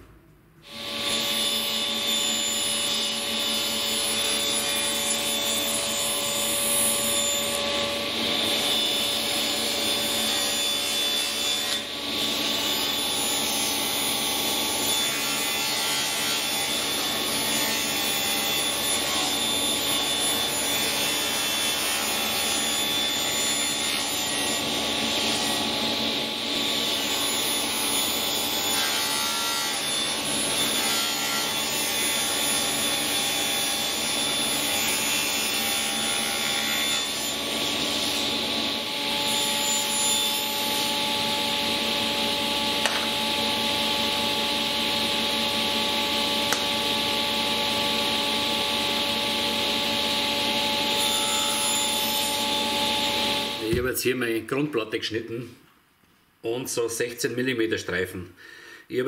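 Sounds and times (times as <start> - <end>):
electric saw cutting plywood: 0.6 - 53.7.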